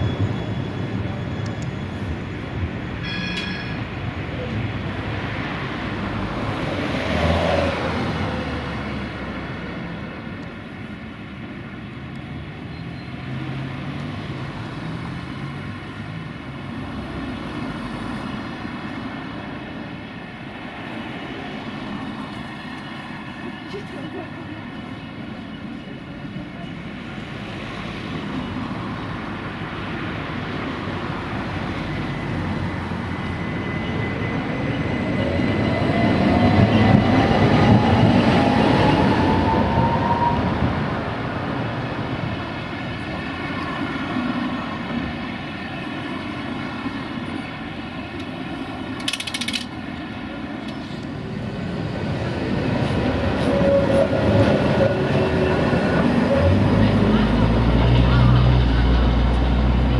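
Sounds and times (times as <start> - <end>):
second tram nearby: 0.0 - 59.9
tram passing with motor whine: 0.0 - 59.9.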